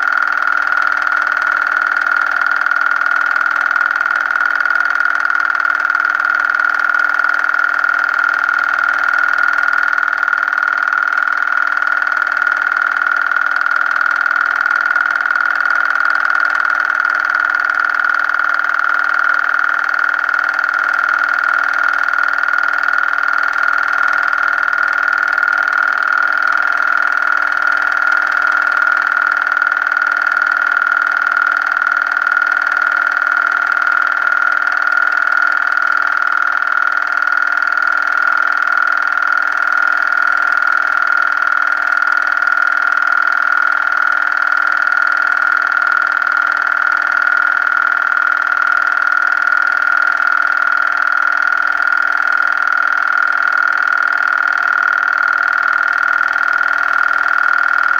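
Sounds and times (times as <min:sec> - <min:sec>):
film projector whirring: 0:00.0 - 0:57.9
high-pitched whine: 0:00.0 - 0:57.9.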